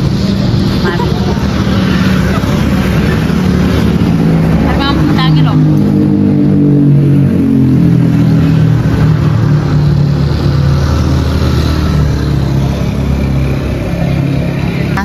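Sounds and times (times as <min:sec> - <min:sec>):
road traffic noise: 0:00.0 - 0:15.0
vehicle engine revving: 0:00.0 - 0:15.0.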